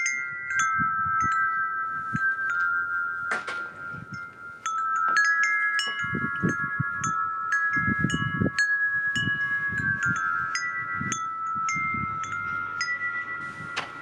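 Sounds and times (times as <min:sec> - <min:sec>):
chimes ringing: 0:00.0 - 0:14.0
low rumbles: 0:00.0 - 0:14.0.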